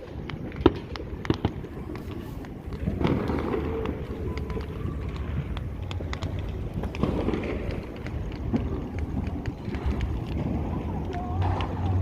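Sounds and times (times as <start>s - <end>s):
distant fireworks popping: 0.0s - 12.0s
steady low rumble: 0.0s - 12.0s.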